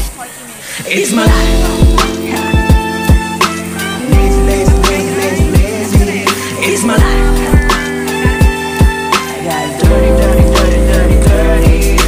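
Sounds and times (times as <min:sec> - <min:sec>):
deep sliding kick drums: 0:01.3 - 0:09.2, 0:09.8 - 0:12.0
sustained chords: 0:01.3 - 0:12.0.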